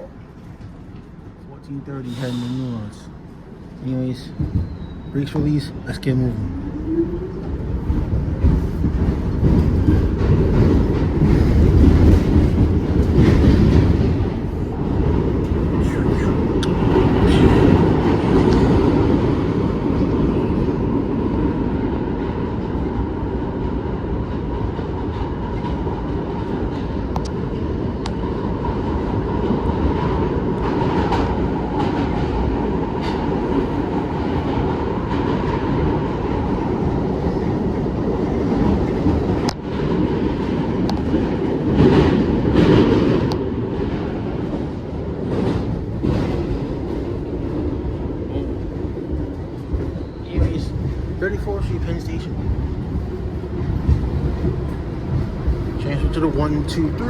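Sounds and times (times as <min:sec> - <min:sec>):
subway wheels rumbling on rail: 0:00.0 - 0:57.0
rail joint clicks: 0:06.7 - 0:57.0.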